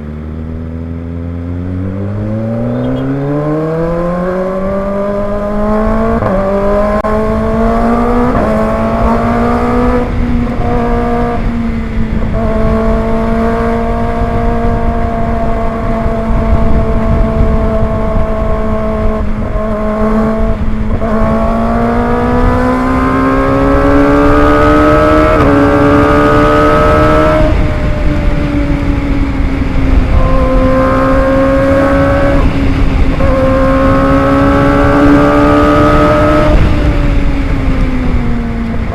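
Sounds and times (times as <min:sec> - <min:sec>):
motorcycle engine accelerating: 0:00.0 - 0:38.9
wind noise: 0:01.4 - 0:38.9.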